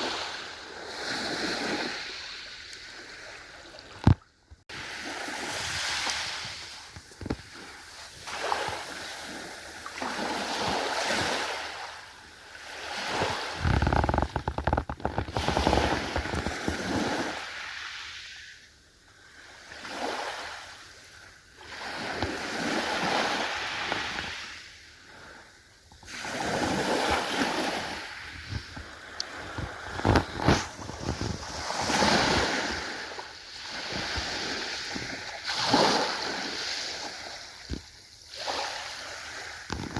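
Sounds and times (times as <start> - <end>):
ocean waves breaking: 0.0 - 4.1, 4.7 - 18.4, 21.6 - 25.4, 26.1 - 39.9.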